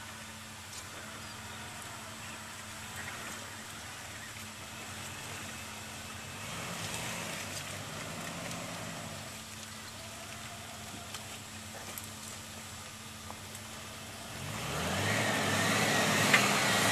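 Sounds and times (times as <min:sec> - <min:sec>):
light rain hiss: 0:00.0 - 0:16.9
off-road vehicle engine running: 0:00.0 - 0:16.9.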